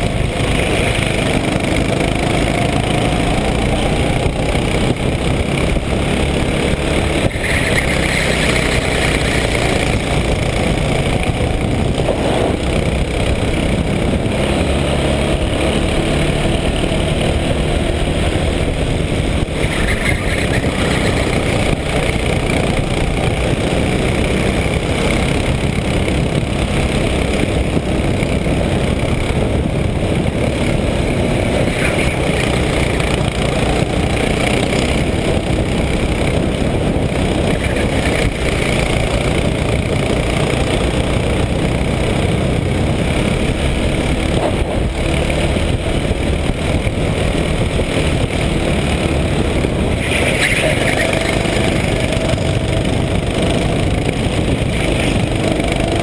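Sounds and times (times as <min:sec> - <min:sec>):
kart engine racing: 0:00.0 - 0:56.0
wind and road noise: 0:00.0 - 0:56.0.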